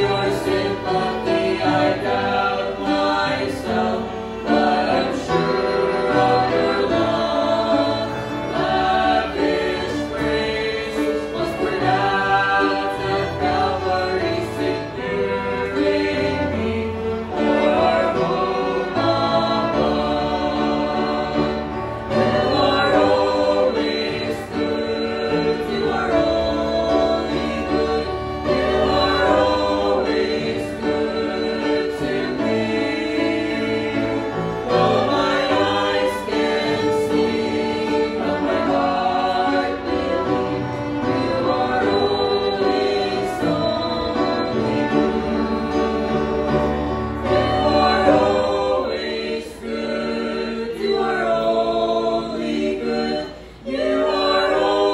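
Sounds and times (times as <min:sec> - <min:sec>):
group singing in harmony: 0:00.0 - 0:54.9
instrumental accompaniment: 0:00.0 - 0:54.9.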